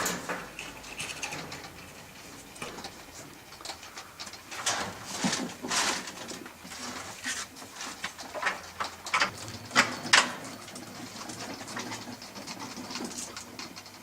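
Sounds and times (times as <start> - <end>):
birds rustling and scuffling: 0.0 - 14.0.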